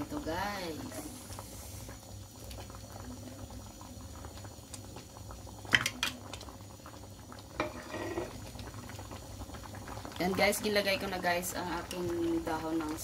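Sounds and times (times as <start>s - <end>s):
soup bubbling at a simmer: 0.0s - 13.0s.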